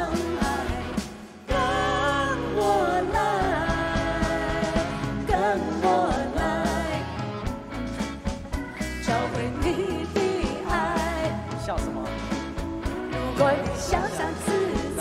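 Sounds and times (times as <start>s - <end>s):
woman and man singing duet: 0.0s - 7.5s, 9.0s - 12.4s, 13.0s - 15.0s
live band playing: 0.0s - 15.0s.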